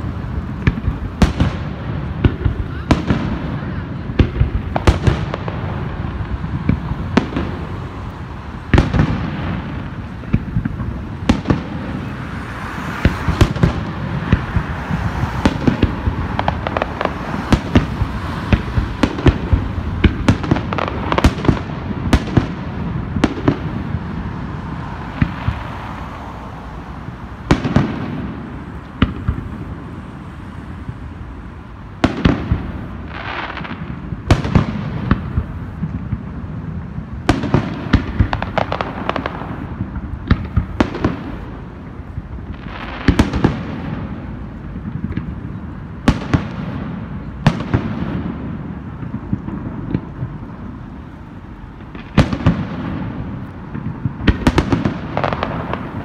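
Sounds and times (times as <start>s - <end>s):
fireworks bursting with bangs: 0.0s - 56.0s
fireworks crackling hiss: 0.0s - 56.0s.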